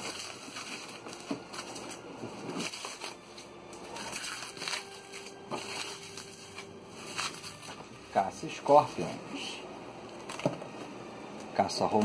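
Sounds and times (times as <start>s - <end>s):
bubble wrap sharp crackles: 0.0s - 10.8s
bubble wrap rustling and crinkling: 0.0s - 12.0s.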